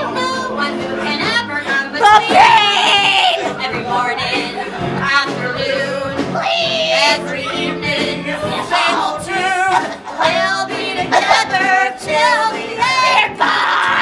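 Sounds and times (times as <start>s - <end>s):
musical accompaniment: 0.0s - 14.0s
women singing with vibrato: 0.0s - 14.0s.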